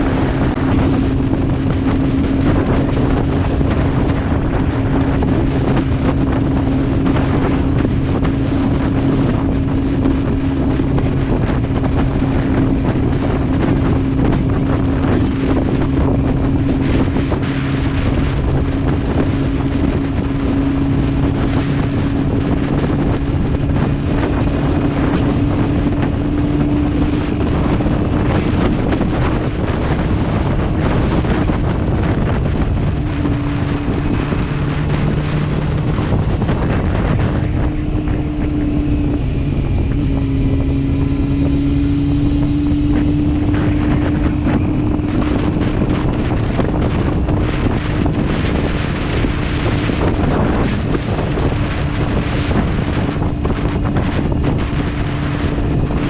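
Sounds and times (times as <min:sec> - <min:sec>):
motorcycle engine hum: 0:00.0 - 0:56.0
wind noise on microphone: 0:00.0 - 0:56.0.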